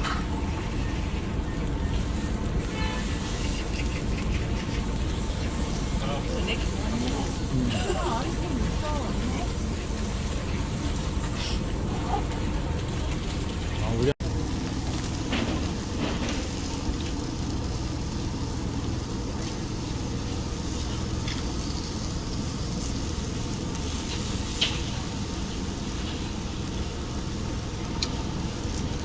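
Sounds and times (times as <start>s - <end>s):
meat sizzling on grill: 0.0s - 29.0s
steady low hum: 0.0s - 29.0s.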